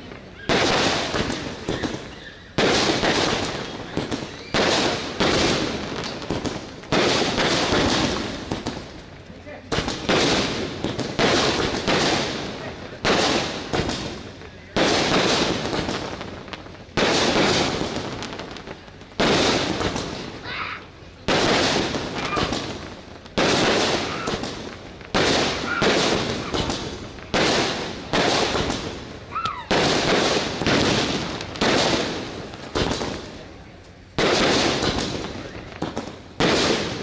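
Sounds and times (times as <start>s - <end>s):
sharp bangs with crackling hiss: 0.0s - 37.0s.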